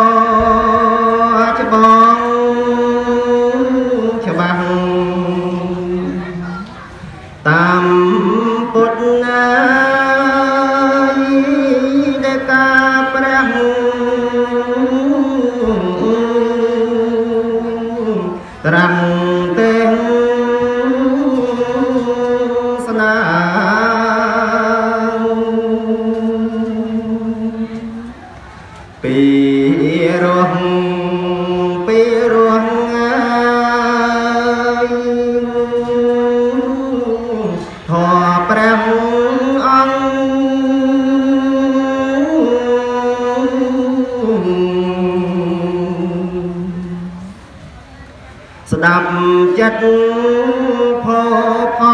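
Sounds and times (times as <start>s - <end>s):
man chanting: 0.0s - 28.2s, 29.0s - 47.3s, 48.6s - 51.9s.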